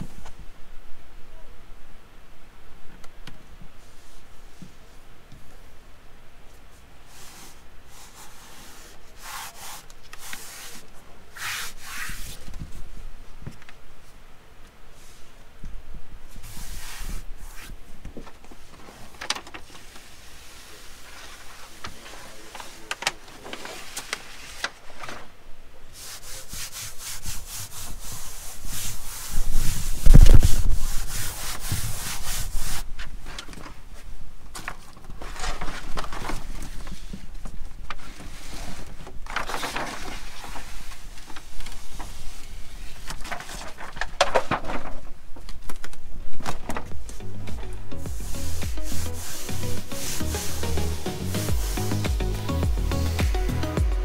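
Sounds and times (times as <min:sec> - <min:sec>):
foam pads and paper rustling: 0:07.0 - 0:14.2, 0:16.3 - 0:53.8.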